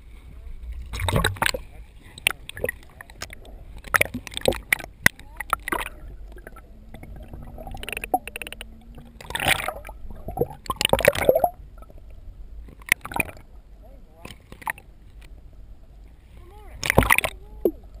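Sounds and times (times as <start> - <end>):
water sloshing: 0.0 - 15.4, 16.0 - 18.0
muffled underwater noise: 0.0 - 18.0
steady low hum: 0.0 - 18.0.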